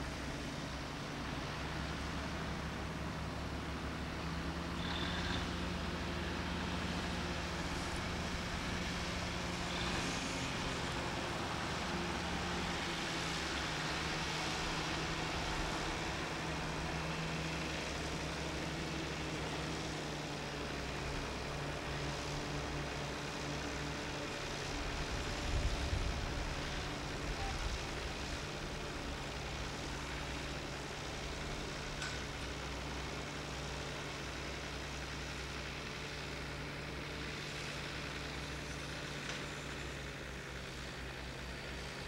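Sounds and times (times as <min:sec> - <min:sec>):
crane engine running: 0:00.0 - 0:42.0.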